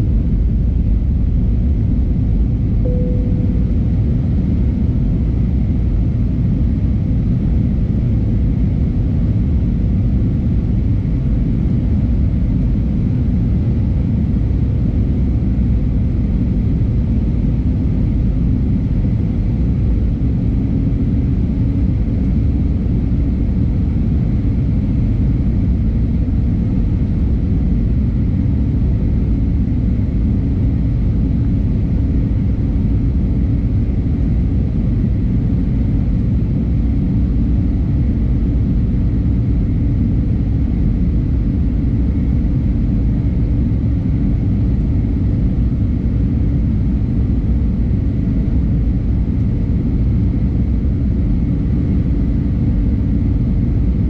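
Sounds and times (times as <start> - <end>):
airplane cabin engine roar: 0.0 - 54.0
faint hum: 0.0 - 54.0.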